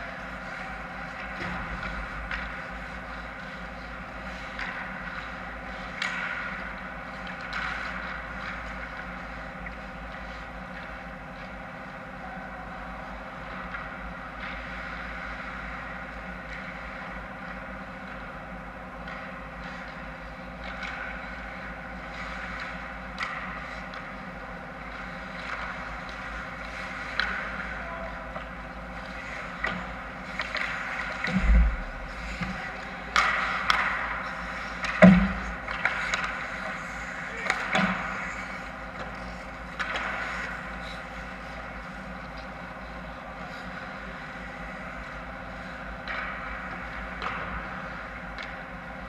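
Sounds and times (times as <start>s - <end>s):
steady mechanical hum: 0.0s - 49.0s
skates and sticks scraping on ice: 0.1s - 11.8s, 12.4s - 48.6s.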